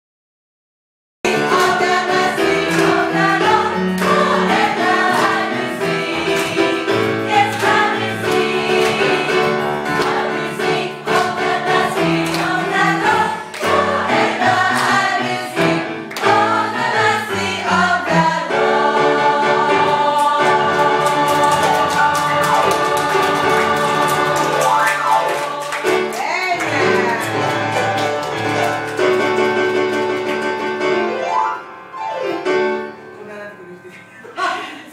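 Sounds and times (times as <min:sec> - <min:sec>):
gospel choir singing: 0:01.3 - 0:30.5.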